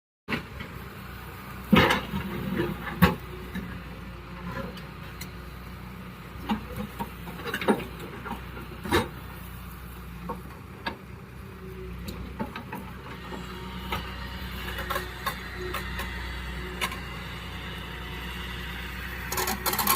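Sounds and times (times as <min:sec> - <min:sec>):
excavator diesel engine running: 0:00.3 - 0:19.9.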